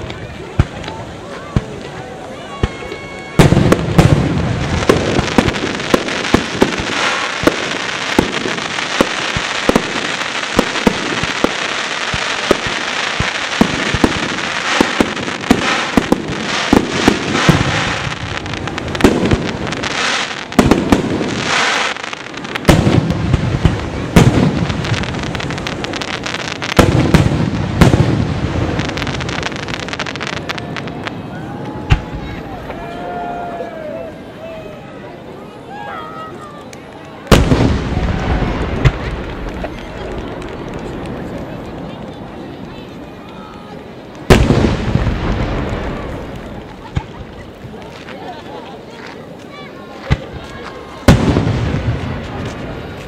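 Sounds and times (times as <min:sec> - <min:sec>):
fireworks bangs and booms: 0:00.0 - 0:33.5, 0:37.2 - 0:53.0
fireworks crackling: 0:00.0 - 0:34.4, 0:35.2 - 0:53.0.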